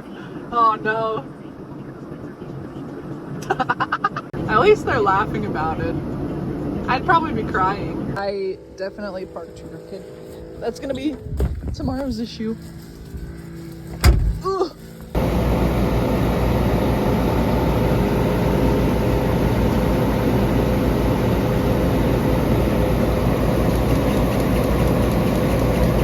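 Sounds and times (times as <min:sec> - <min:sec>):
vehicle engine running: 0:04.4 - 0:11.1, 0:11.8 - 0:26.0.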